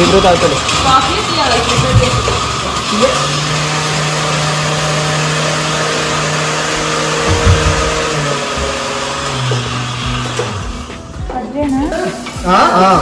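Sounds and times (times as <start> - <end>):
appliance motor humming: 0.0 - 11.4.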